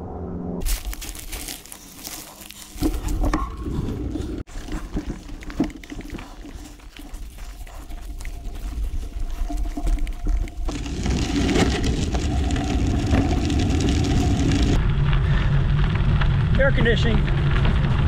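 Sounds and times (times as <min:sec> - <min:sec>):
low rumble: 0:00.0 - 0:18.0
bike tyres crunching over dirt: 0:00.6 - 0:18.0.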